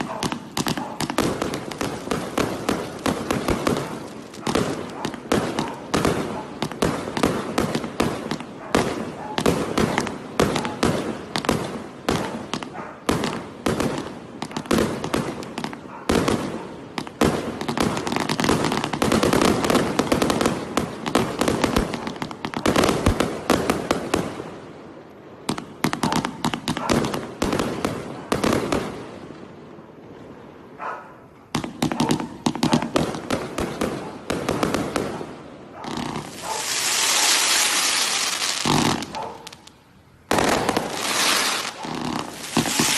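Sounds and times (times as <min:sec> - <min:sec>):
fireworks shots and bursts: 0:00.0 - 0:29.3, 0:31.5 - 0:42.9.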